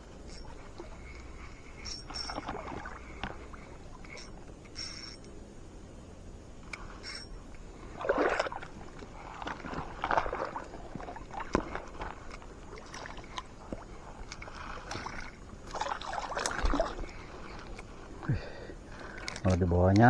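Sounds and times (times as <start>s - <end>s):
water sloshing and splashing: 0.0s - 5.1s, 7.0s - 18.3s, 18.9s - 19.6s.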